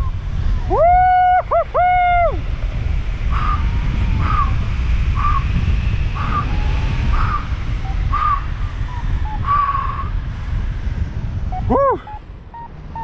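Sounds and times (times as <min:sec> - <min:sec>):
airflow rushing over microphone: 0:00.0 - 0:13.0.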